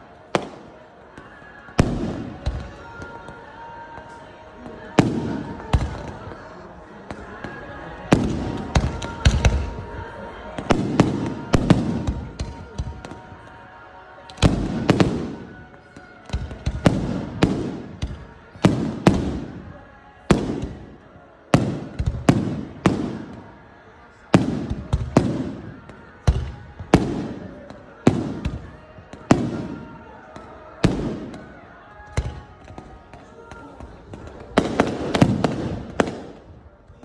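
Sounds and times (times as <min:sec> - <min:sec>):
fireworks bursting with bangs: 0:00.0 - 0:13.5, 0:14.3 - 0:23.6, 0:24.3 - 0:37.0
rumble of fireworks: 0:00.0 - 0:37.0.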